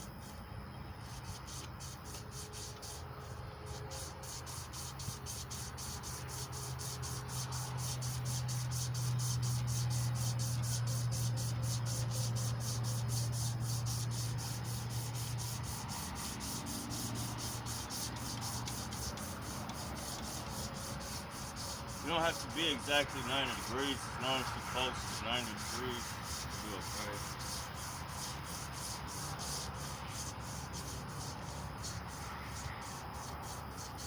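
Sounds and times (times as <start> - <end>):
emery cloth sanding metal: 1.0 - 34.0.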